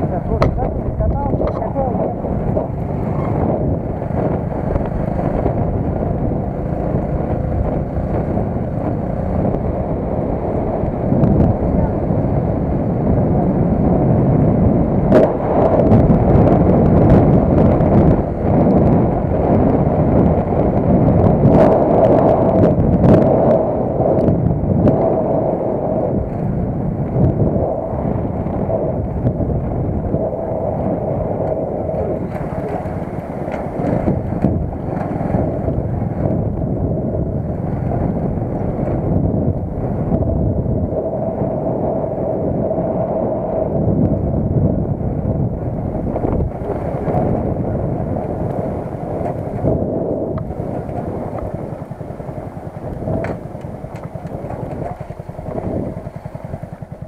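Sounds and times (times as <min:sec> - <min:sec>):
rumbling ride noise: 0:00.0 - 0:57.0
wind buffeting microphone: 0:00.0 - 0:57.0.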